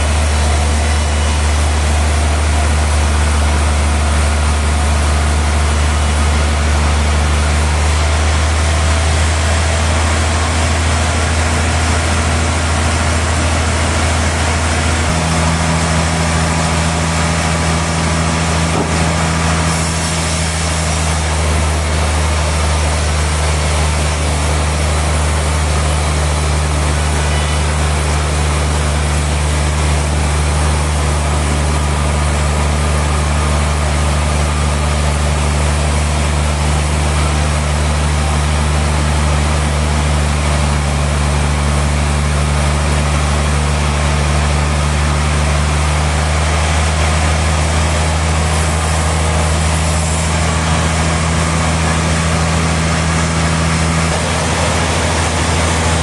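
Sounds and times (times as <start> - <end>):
sawmill machinery engine hum: 0.0 - 56.0.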